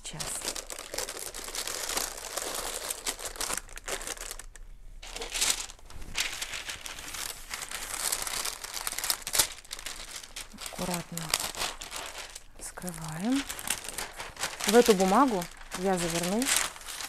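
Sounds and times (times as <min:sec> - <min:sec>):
wrapping paper rustling: 0:00.0 - 0:17.0.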